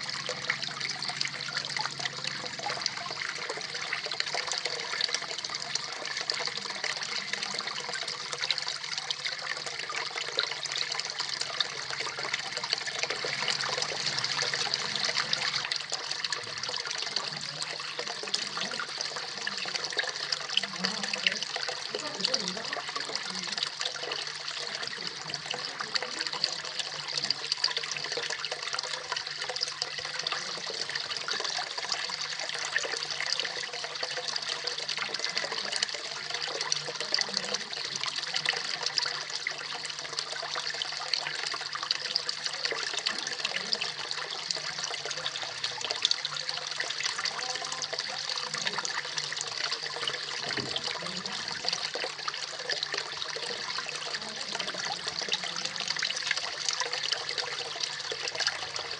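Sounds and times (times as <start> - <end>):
waterfall splashing into pond: 0.0 - 58.9.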